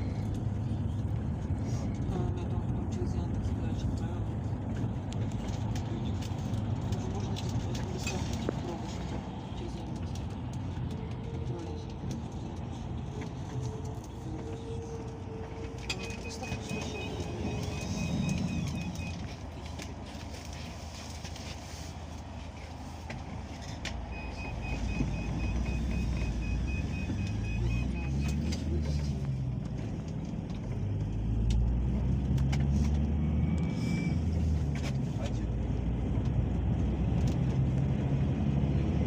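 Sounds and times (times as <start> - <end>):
road rumble: 0.0 - 39.0
vehicle engine: 0.0 - 39.0.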